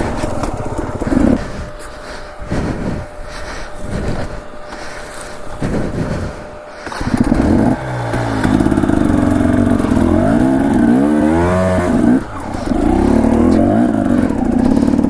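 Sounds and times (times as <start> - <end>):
dirt bike engine revving: 0.0 - 15.0
rustling and clatter: 0.0 - 15.0.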